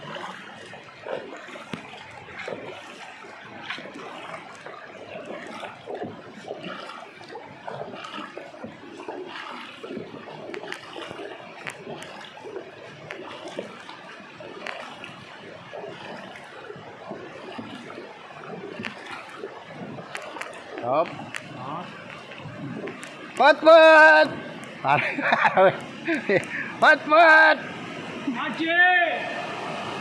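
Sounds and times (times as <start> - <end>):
paddles dipping in water: 0.0 - 30.0
water rushing along hull: 0.0 - 30.0
water splashing and dripping: 0.0 - 30.0.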